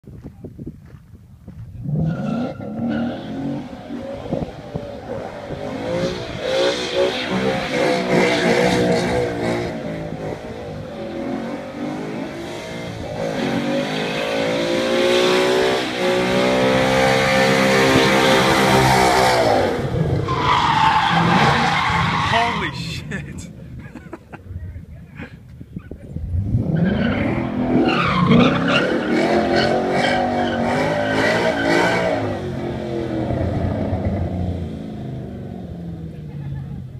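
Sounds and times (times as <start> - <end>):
car engine revving hard: 1.9 - 22.5, 26.3 - 35.5.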